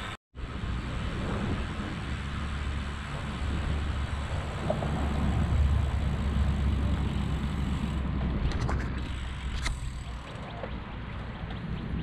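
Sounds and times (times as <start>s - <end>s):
road noise: 0.0s - 12.0s
wind noise on microphone: 0.0s - 12.0s.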